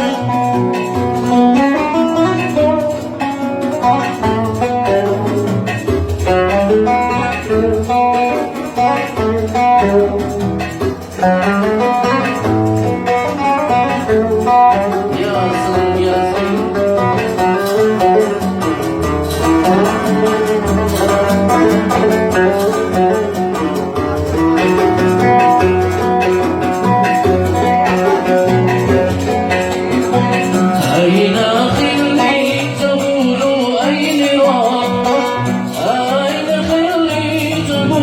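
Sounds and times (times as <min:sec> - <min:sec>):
oud plucked melody: 0:00.0 - 0:38.0.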